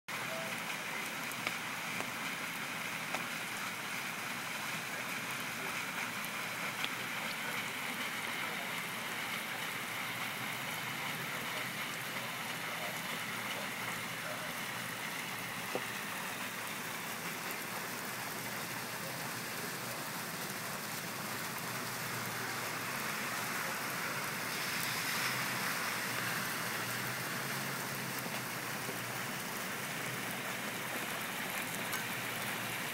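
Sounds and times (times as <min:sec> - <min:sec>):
heavy rain on pavement and cars: 0:00.1 - 0:32.9.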